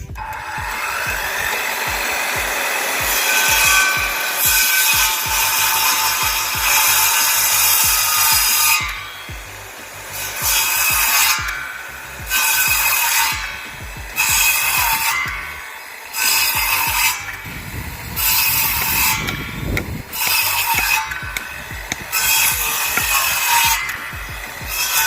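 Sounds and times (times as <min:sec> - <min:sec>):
electric saw cutting wood: 0:00.0 - 0:25.0
music with steady beat: 0:00.0 - 0:25.0.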